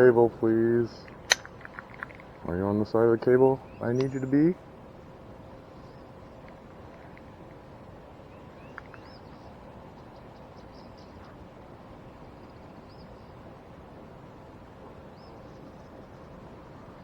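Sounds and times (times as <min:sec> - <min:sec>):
birds chirping faintly: 0:00.0 - 0:13.8, 0:15.0 - 0:16.7
faint hum: 0:00.0 - 0:17.0
outdoor background hiss: 0:00.0 - 0:17.0.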